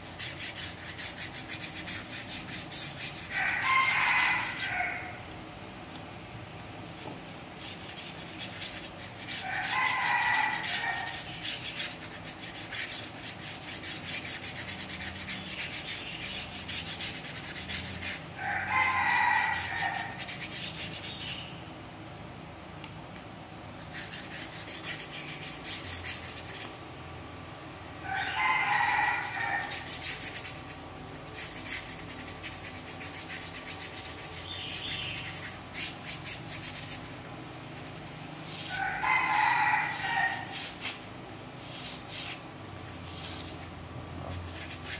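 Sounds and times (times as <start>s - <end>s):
paintbrush rubbing on cardboard: 0.0s - 4.9s, 6.8s - 21.5s, 23.8s - 26.7s, 28.7s - 37.2s, 37.8s - 44.9s.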